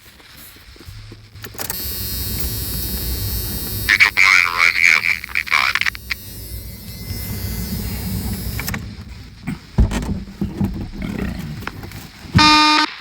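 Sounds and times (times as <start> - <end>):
aircraft engine rumble through radio: 0.0 - 12.9.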